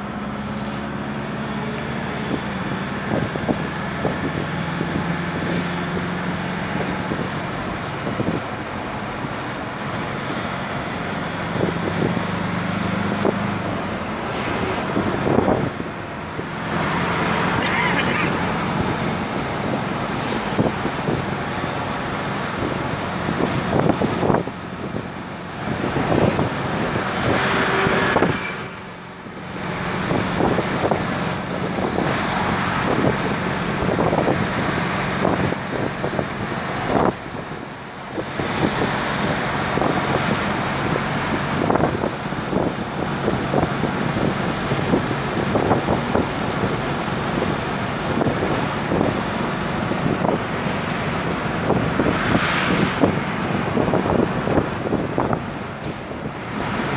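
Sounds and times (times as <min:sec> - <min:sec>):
road noise inside moving car: 0:00.0 - 0:56.9.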